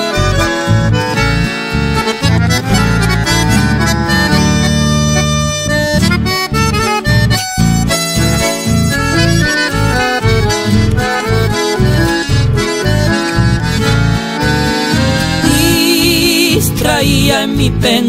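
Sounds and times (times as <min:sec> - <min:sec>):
accordion melody: 0:00.0 - 0:18.0
rhythmic bass pulse: 0:00.0 - 0:18.0.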